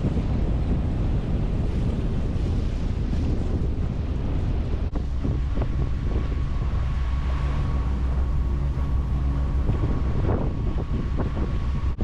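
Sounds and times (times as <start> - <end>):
boat engine humming: 0.0 - 12.0
wind buffeting microphone: 0.0 - 12.0.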